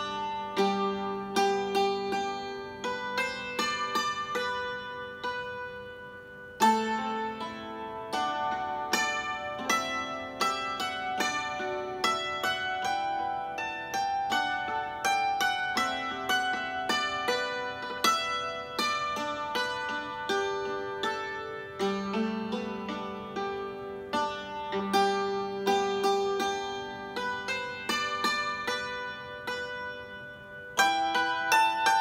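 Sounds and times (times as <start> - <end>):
hammered dulcimer melody: 0.0 - 32.0.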